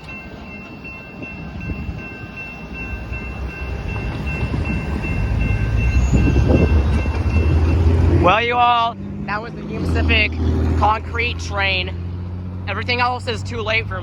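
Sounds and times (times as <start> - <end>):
crossing bells ringing: 0.0 - 14.0
freight train rolling past: 0.0 - 14.0.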